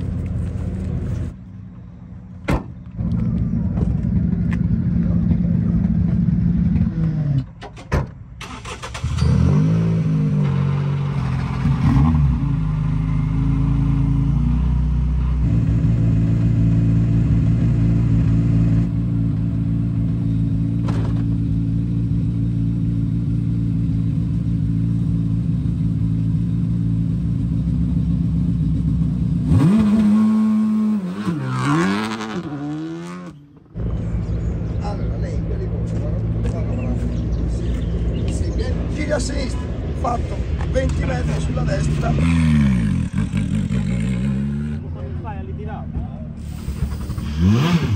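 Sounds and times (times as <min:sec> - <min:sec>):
rally car engine revving and idling: 0:08.6 - 0:47.9.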